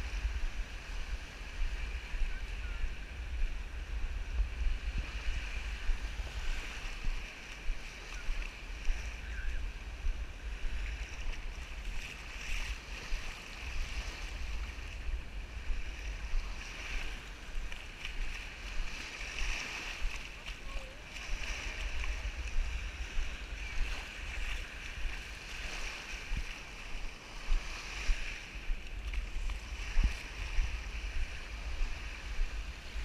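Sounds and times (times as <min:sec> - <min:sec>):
small waves lapping: 0:00.0 - 0:33.0
wind buffeting microphone: 0:00.0 - 0:33.0.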